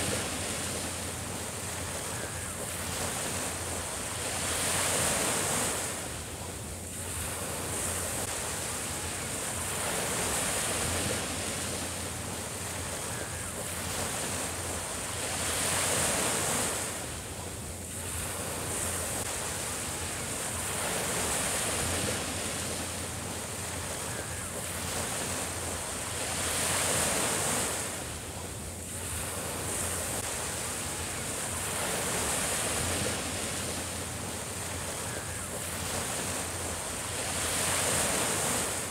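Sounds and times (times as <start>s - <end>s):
waves washing onto sandy shore: 0.0s - 38.9s.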